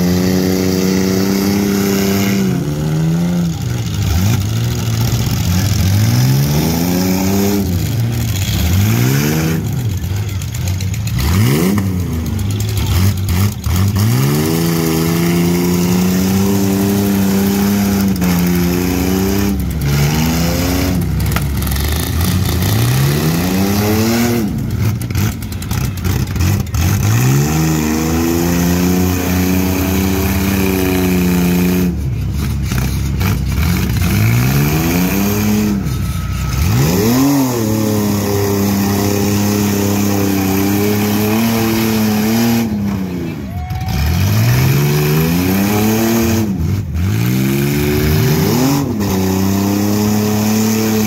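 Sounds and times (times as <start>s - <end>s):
car engines revving hard: 0.0s - 51.0s.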